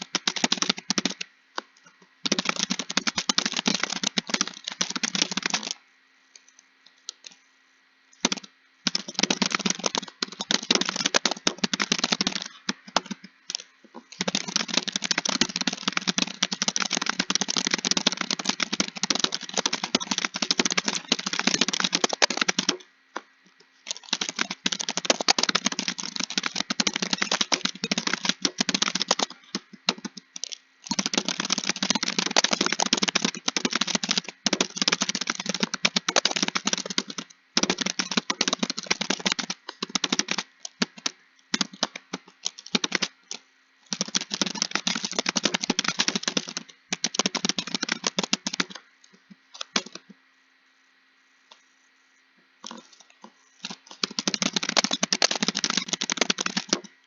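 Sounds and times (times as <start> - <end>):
computer keyboard typing: 0.0 - 1.3, 2.2 - 5.8, 8.2 - 22.9, 23.9 - 48.8, 49.6 - 50.1, 52.6 - 57.0.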